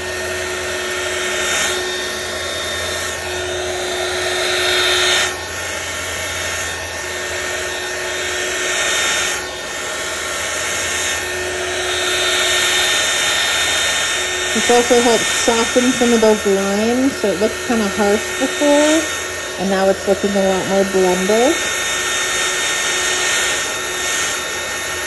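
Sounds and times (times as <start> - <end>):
heat gun blowing air: 0.0 - 25.0.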